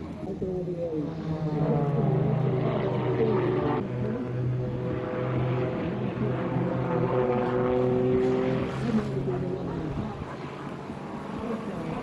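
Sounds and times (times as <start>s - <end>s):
propeller airplane flying overhead: 0.0s - 12.0s.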